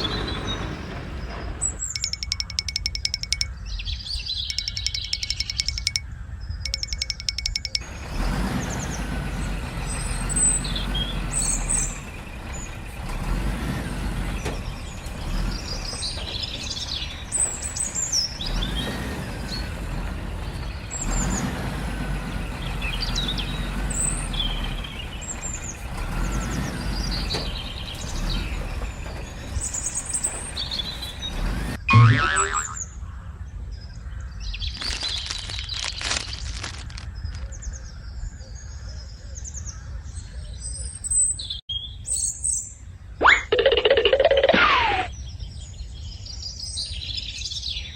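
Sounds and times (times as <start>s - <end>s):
birds chirping: 0.0s - 47.9s
engine rumble: 0.0s - 47.9s.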